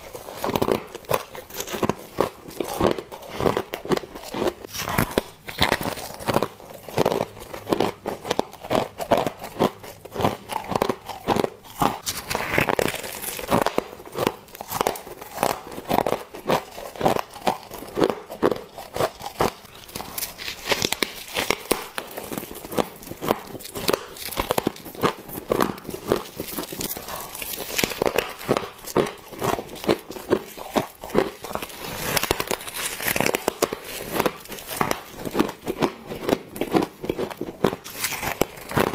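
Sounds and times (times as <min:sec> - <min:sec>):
chewing crisp frost: 0:00.0 - 0:38.9.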